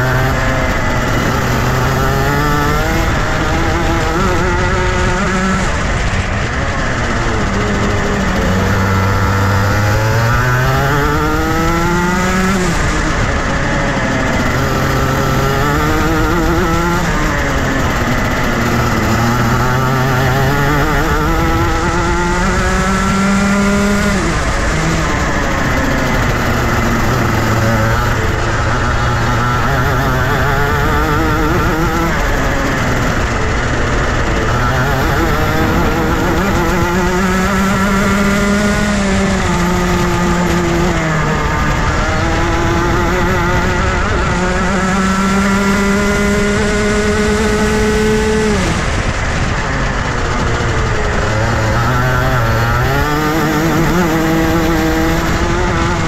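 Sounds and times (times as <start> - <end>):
kart engine revving: 0.0 - 56.0
wind and track noise: 0.0 - 56.0.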